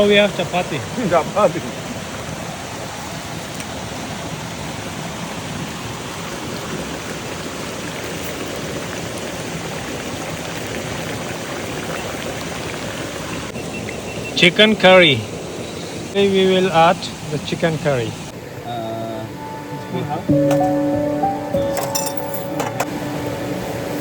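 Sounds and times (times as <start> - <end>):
steady rain hiss: 0.0 - 21.5, 22.8 - 24.0.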